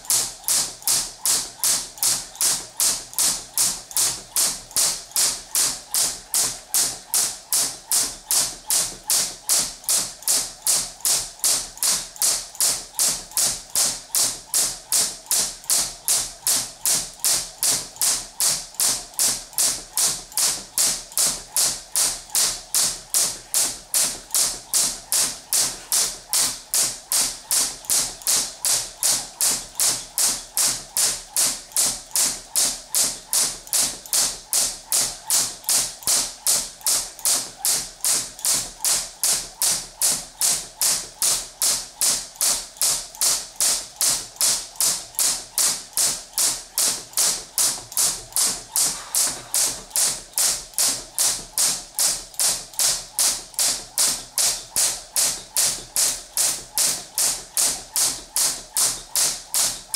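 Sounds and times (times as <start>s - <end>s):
jump rope slapping the floor: 0.0s - 59.9s.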